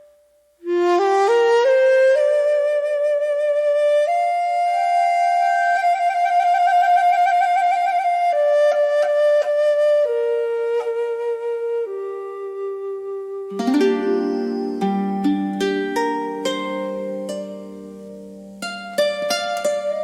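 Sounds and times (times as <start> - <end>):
bamboo flute melody: 0.0 - 20.0.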